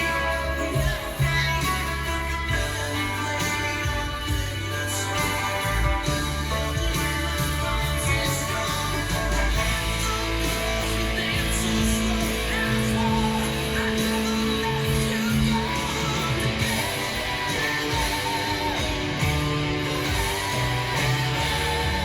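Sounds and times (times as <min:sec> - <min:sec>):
electric guitar playing: 0:00.0 - 0:22.0
rock band backing: 0:00.0 - 0:22.0.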